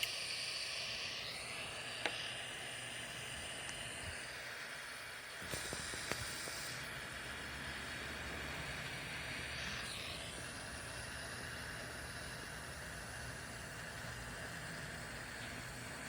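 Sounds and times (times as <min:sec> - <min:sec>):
torch hissing: 0:00.0 - 0:16.0.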